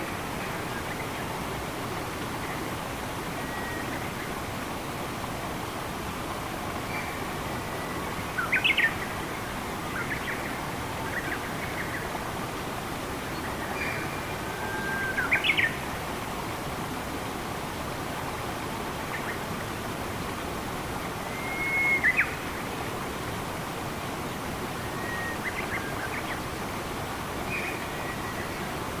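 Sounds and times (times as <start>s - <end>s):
water flowing: 0.0s - 29.0s.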